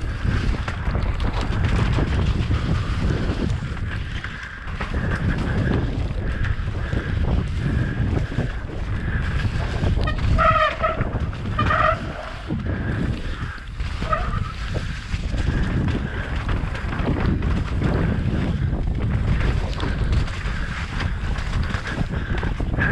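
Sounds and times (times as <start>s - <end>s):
bike tyres and frame rattling: 0.0s - 22.9s
wind buffeting microphone: 0.0s - 22.9s.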